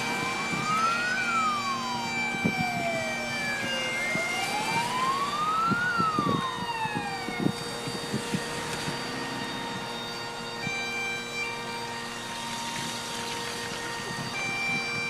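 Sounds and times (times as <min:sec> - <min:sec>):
cars passing on wet road: 0:00.0 - 0:14.5
siren wailing: 0:00.0 - 0:15.0.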